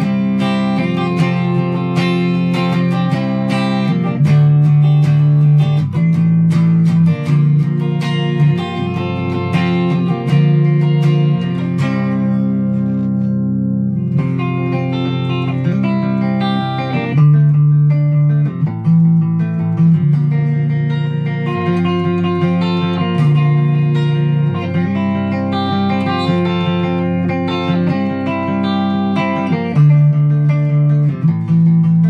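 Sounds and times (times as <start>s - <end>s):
electric guitar chords: 0.0s - 32.0s.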